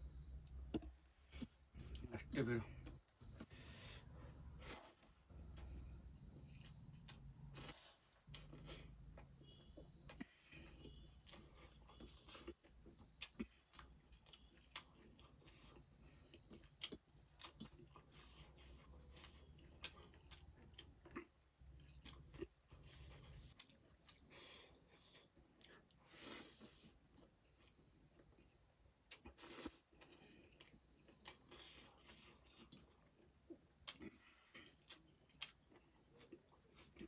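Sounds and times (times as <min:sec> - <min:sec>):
man chewing and smacking lips: 0:05.5 - 0:37.0.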